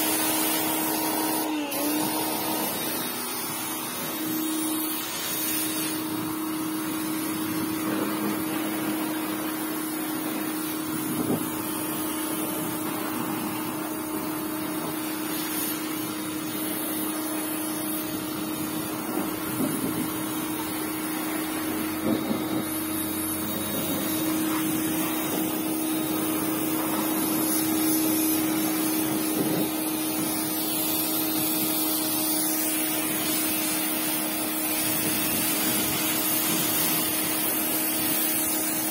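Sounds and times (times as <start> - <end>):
pressure washer pump humming: 0.0 - 38.9
water jet hissing: 0.0 - 38.9.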